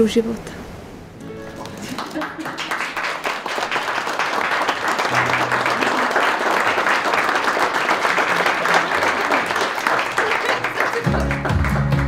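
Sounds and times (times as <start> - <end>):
audience applauding: 1.4 - 12.0.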